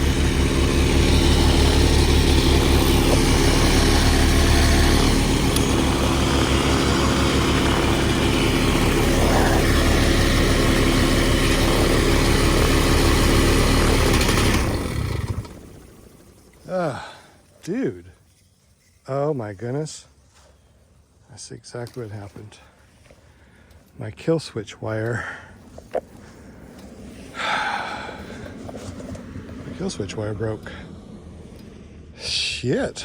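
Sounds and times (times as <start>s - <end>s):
two-stroke engine and propeller: 0.0s - 18.7s, 25.0s - 33.0s.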